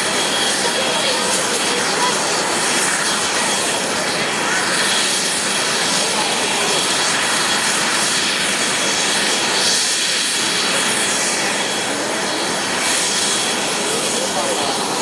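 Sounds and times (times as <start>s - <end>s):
helicopter rotor and engine: 0.0s - 15.0s
high turbine whine: 0.0s - 15.0s.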